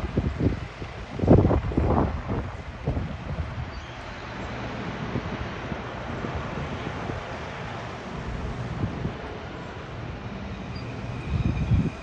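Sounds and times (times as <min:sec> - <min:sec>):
steady rushing noise: 0:00.0 - 0:12.0
wind buffeting microphone: 0:00.0 - 0:12.0.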